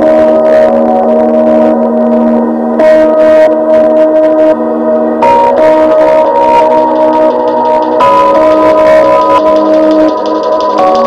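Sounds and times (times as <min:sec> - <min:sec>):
guitar music through speaker: 0:00.0 - 0:11.0.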